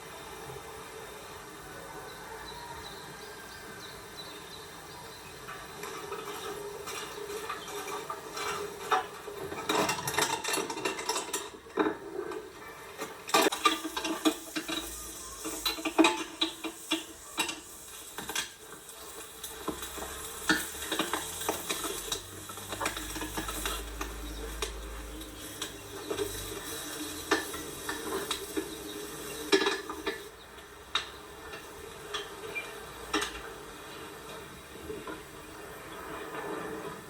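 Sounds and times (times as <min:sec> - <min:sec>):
food sizzling: 0:00.0 - 0:37.0
utensil scraping a cooking pot: 0:05.8 - 0:37.0.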